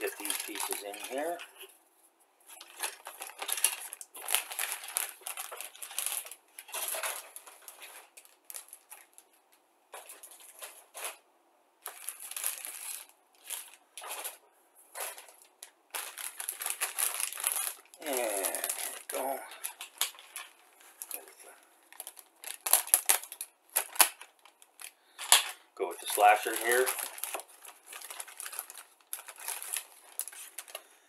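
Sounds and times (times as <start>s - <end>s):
plastic bag crinkling: 0.0s - 1.7s, 2.5s - 11.2s, 11.8s - 30.9s.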